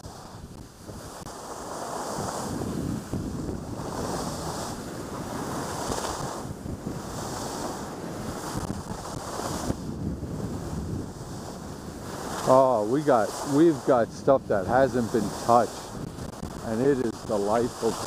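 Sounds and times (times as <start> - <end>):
skis hissing on snow: 0.0 - 18.0
wind rushing over microphone: 0.0 - 18.0.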